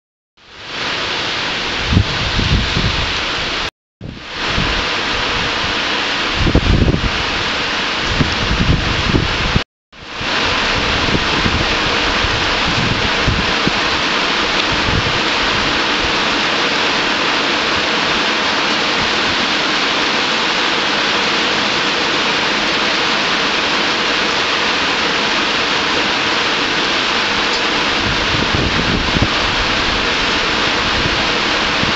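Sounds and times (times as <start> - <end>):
heavy rain: 0.4 - 31.9.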